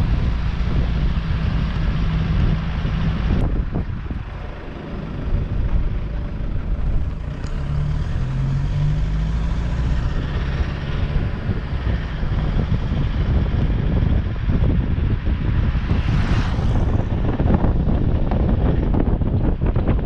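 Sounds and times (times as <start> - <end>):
faint engine hum: 0.0 - 20.0
van road noise rumble: 0.0 - 20.0
wind rush: 0.0 - 20.0.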